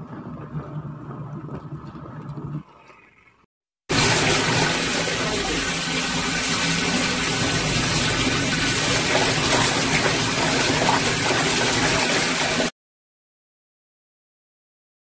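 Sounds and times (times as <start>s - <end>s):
churning water in washing machine: 0.0s - 12.7s.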